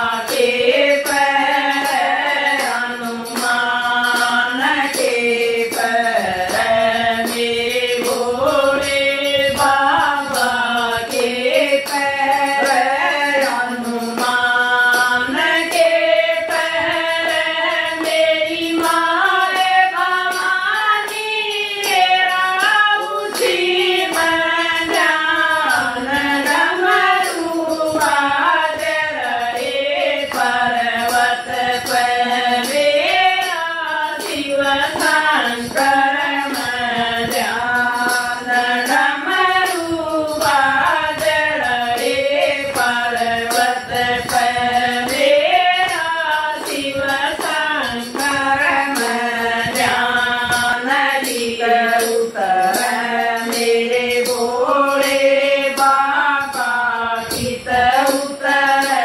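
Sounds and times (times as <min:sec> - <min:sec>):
handheld clapper beat: 0:00.0 - 0:59.0
women singing in unison: 0:00.0 - 0:59.0.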